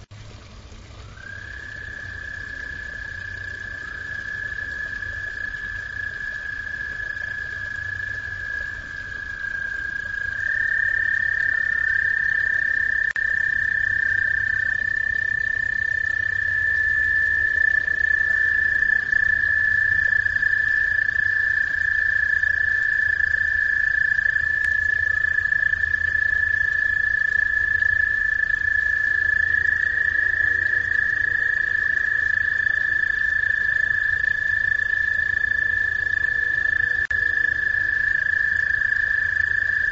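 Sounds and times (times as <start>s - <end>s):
frogs trilling: 0.7s - 39.9s.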